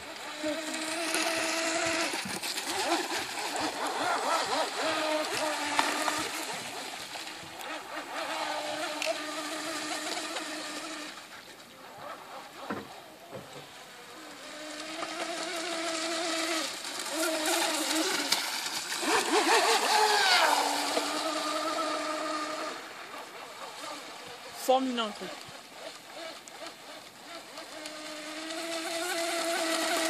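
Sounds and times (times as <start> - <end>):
electric motor whining: 0.0 - 11.3, 13.9 - 18.3, 18.9 - 25.3, 26.1 - 30.0.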